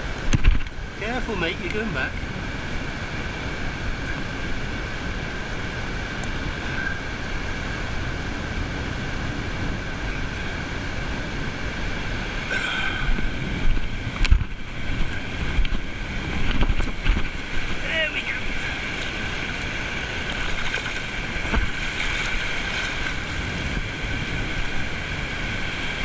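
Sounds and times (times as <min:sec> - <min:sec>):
small waves washing on shore: 0:00.0 - 0:26.0
wind buffeting microphone: 0:00.0 - 0:26.0.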